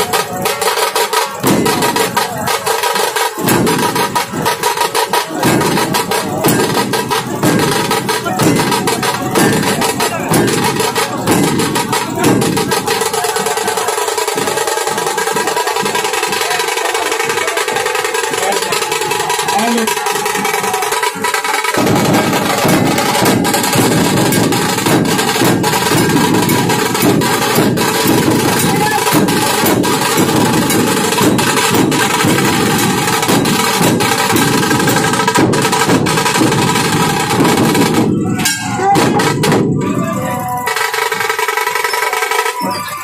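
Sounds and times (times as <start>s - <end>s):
rapid sharp drum strokes: 0.0s - 43.0s.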